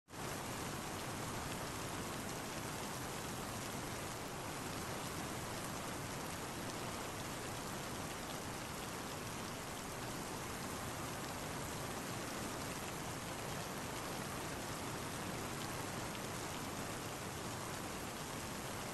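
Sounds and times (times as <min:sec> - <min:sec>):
steady rain hiss: 0:00.1 - 0:18.9.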